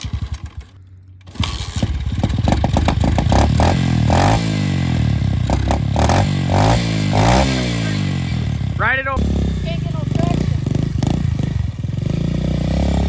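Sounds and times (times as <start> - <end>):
small engine sputtering and revving: 0.0 - 13.0.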